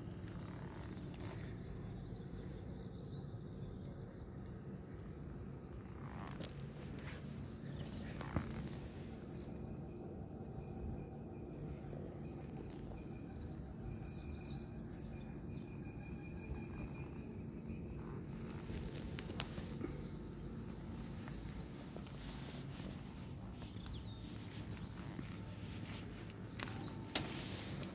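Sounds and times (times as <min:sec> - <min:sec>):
faint bird chirps: 0:00.0 - 0:27.9
low background rumble: 0:00.0 - 0:27.9.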